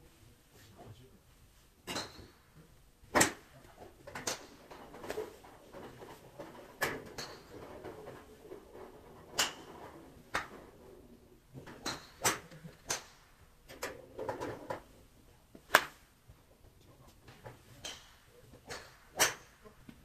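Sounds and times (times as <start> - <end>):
golf clubs striking balls: 1.8 - 16.4, 17.2 - 20.0.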